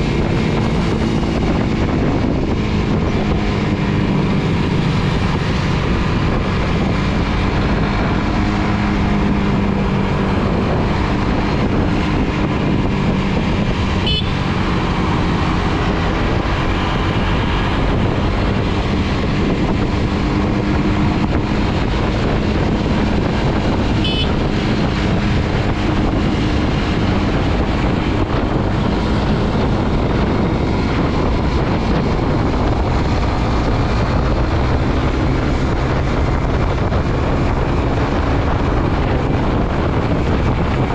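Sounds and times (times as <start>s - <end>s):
motorcycle engine running: 0.0s - 40.9s
road noise: 0.0s - 40.9s
wind noise: 0.0s - 40.9s.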